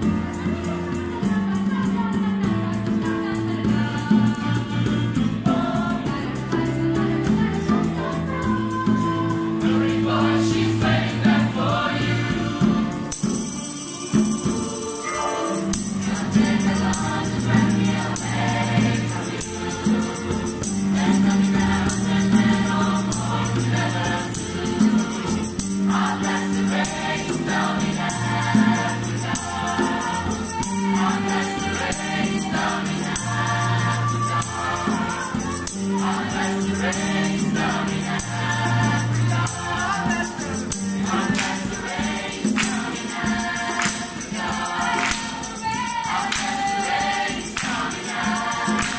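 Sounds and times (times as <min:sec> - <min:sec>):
hand drum: 0:00.0 - 0:48.9
shaken percussion: 0:00.0 - 0:48.9
youth choir singing in parts: 0:00.0 - 0:48.9.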